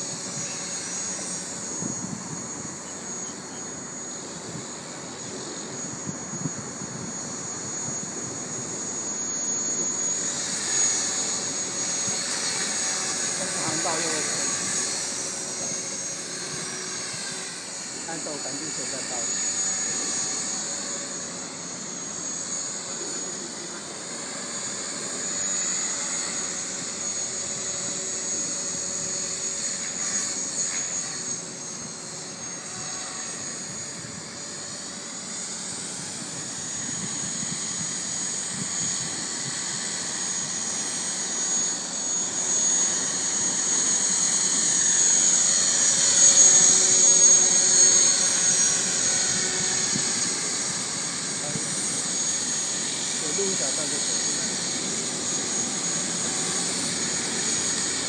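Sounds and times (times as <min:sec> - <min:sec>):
rc helicopter whine: 0:00.0 - 0:58.0.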